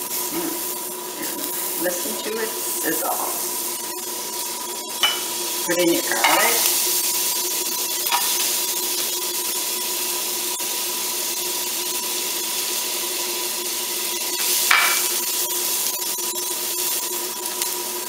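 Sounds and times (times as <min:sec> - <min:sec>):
butter and garlic sizzling: 0:00.0 - 0:18.0
spatula stirring a pan: 0:00.0 - 0:18.0.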